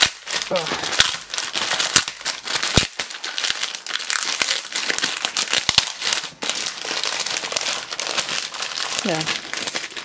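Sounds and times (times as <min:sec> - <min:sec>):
foil packet crinkling: 0:00.0 - 0:10.0.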